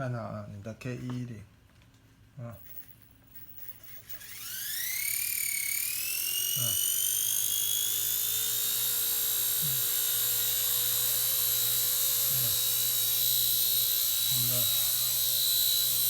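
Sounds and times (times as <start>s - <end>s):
toy helicopter motor whine: 2.6s - 16.0s.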